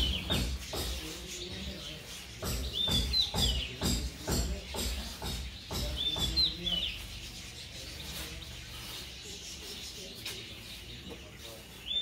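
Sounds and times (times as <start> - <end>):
small bird calling: 0.0 - 12.0.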